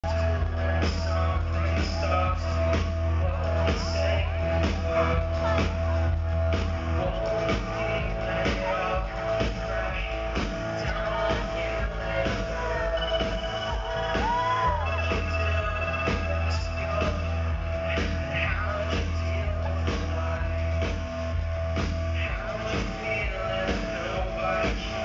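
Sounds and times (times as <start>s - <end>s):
heavy bass: 0.0s - 25.0s
live rock band: 0.0s - 25.0s
steady drum beat: 0.0s - 25.0s.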